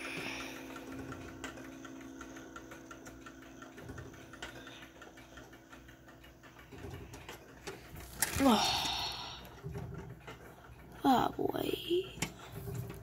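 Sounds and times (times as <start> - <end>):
clock movement clicking: 0.0 - 13.0.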